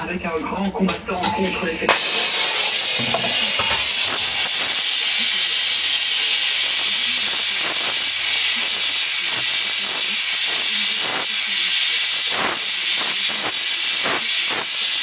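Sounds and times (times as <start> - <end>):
gas torch flame hissing: 1.2 - 15.0.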